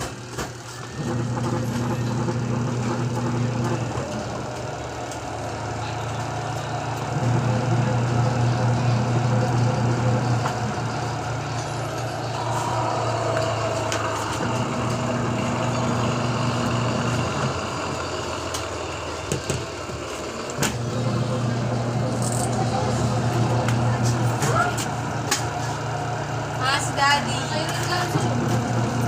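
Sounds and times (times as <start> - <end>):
washing machine motor humming: 0.0 - 29.0.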